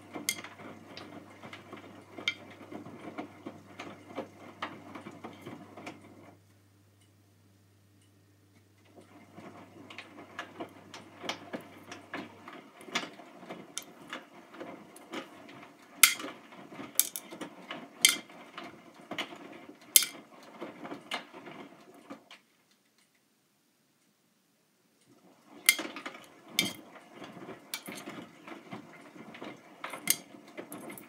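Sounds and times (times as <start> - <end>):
washing machine water sloshing: 0.0 - 6.3, 9.0 - 22.3, 25.1 - 31.0.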